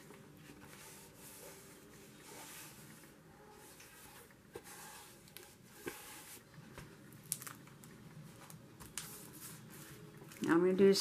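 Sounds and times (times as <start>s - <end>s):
book pages rustling: 0.0s - 10.4s.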